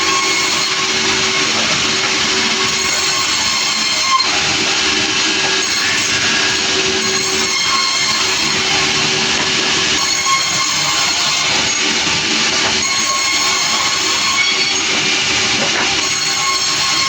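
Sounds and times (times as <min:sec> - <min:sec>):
saw screeching through log: 0:00.0 - 0:17.0.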